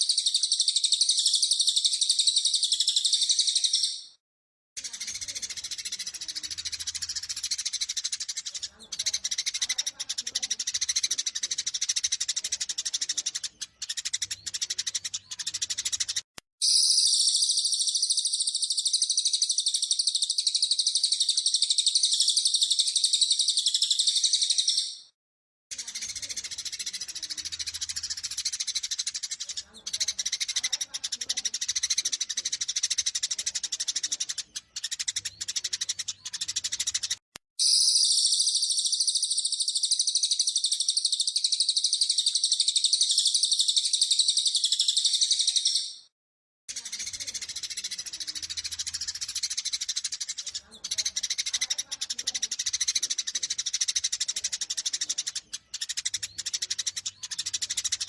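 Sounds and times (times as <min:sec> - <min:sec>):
sparrows chattering: 0:00.0 - 0:04.2, 0:04.8 - 0:46.1, 0:46.7 - 0:58.0.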